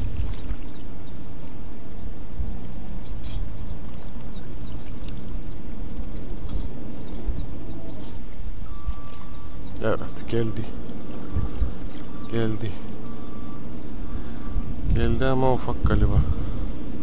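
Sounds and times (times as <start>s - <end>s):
low rumble of surf: 0.0s - 17.0s
water lapping on shore: 0.0s - 17.0s.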